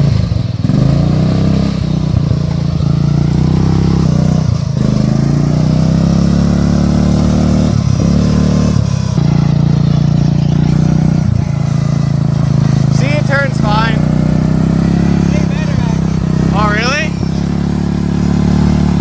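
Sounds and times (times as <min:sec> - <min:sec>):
riding lawn mower engine revving: 0:00.0 - 0:19.0.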